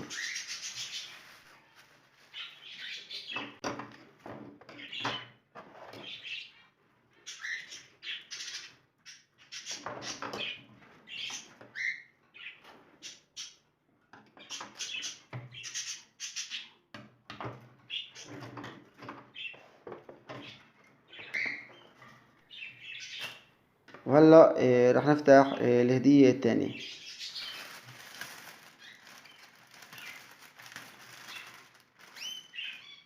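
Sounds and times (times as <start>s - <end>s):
pet birds chirping and chattering: 0.0s - 1.4s, 2.2s - 3.6s, 4.2s - 23.6s, 26.6s - 33.0s.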